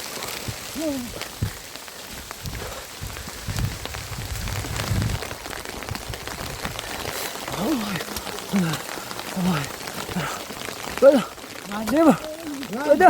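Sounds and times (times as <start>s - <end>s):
rain pattering on surfaces: 0.0s - 13.0s.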